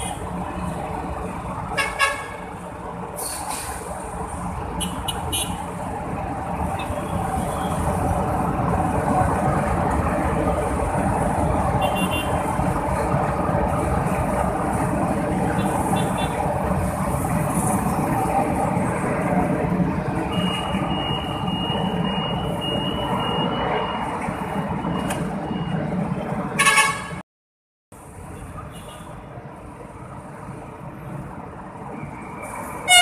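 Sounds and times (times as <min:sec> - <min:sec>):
street traffic: 0:00.0 - 0:27.2, 0:27.9 - 0:33.0.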